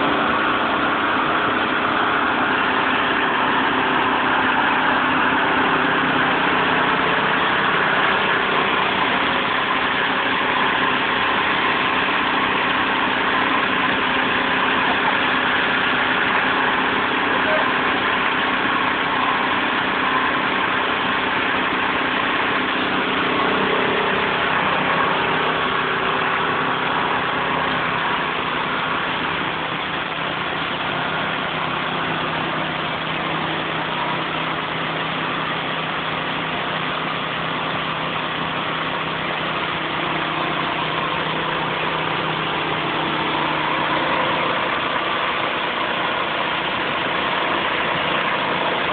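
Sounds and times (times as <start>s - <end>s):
sawmill engine hum: 0.0s - 48.9s.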